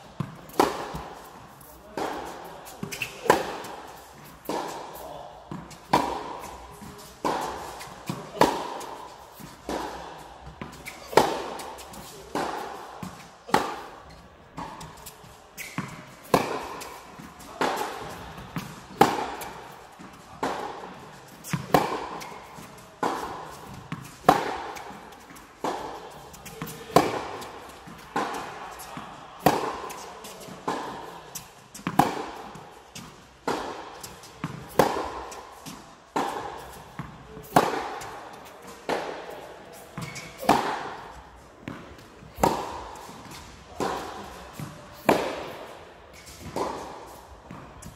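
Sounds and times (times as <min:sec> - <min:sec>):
rackets hitting tennis ball: 0:00.1 - 0:47.9
tennis ball bouncing: 0:00.2 - 0:47.9.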